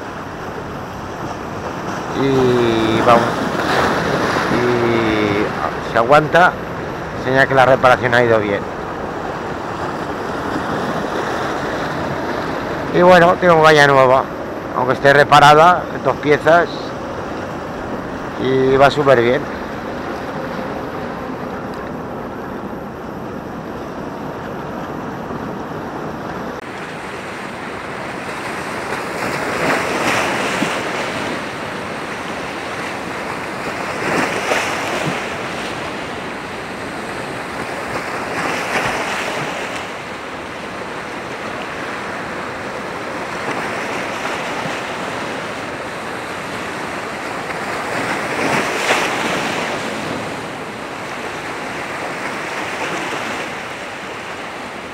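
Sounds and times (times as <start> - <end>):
waves breaking against rocks: 0.0 - 20.8, 26.2 - 54.9.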